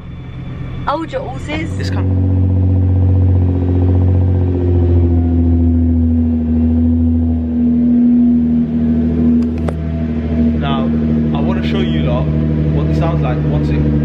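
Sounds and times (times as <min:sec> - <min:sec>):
car engine low drone: 0:00.0 - 0:14.0.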